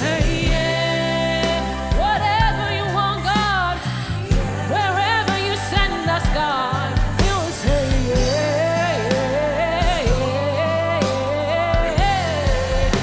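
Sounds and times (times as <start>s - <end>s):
bass notes: 0.0s - 13.0s
drum beats: 0.0s - 13.0s
woman singing gospel: 0.0s - 13.0s.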